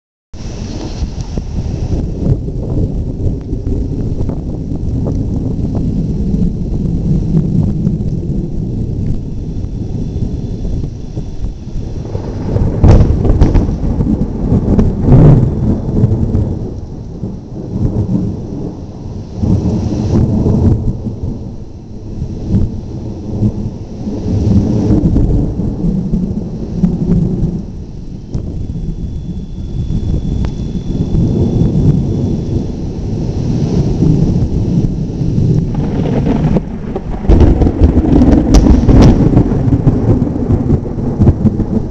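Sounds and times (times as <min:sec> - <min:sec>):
thunder rumbling: 0:00.4 - 0:41.9.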